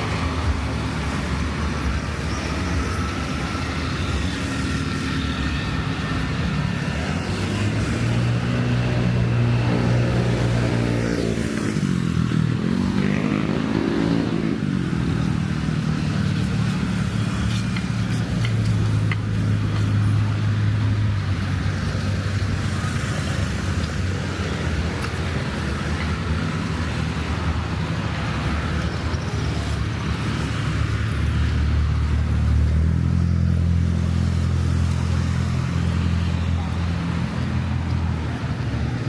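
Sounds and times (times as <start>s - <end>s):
cars and motorbikes passing: 0.0s - 39.0s.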